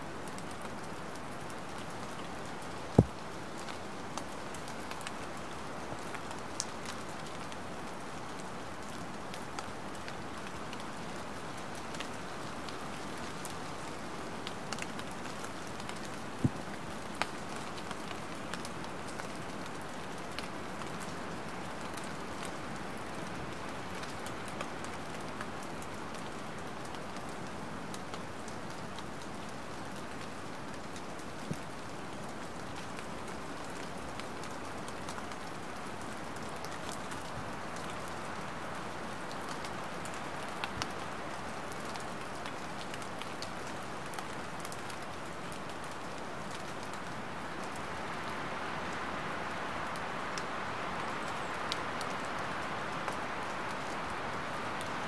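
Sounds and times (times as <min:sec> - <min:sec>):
light rain hiss: 0:00.0 - 0:55.0.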